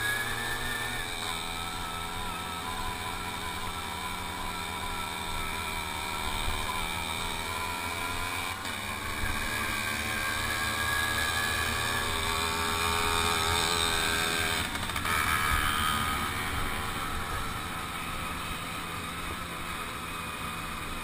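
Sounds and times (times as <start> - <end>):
two-stroke moped engine running: 0.0 - 21.0.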